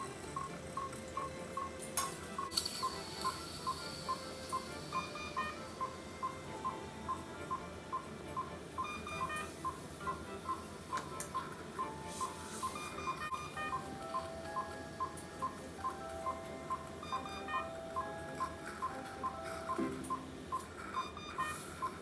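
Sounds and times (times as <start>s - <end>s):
pulse oximeter beeping: 2.4s - 22.0s.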